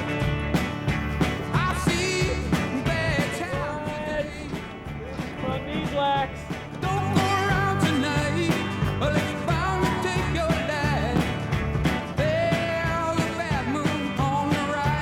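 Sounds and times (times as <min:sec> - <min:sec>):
rock song with beat and bass: 0:00.0 - 0:15.0.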